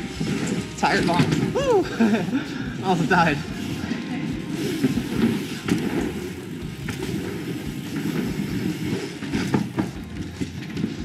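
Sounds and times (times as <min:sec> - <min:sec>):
bike knocks and rattles: 0:00.0 - 0:02.8, 0:04.3 - 0:11.0
bike tyres rolling on wood: 0:00.0 - 0:11.0.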